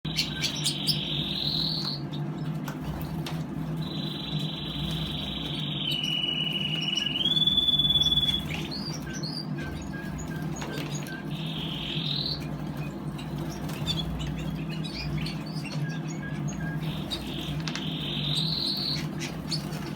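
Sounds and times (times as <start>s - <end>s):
canary singing trills: 0.1s - 19.9s
steady low hum: 0.1s - 19.9s.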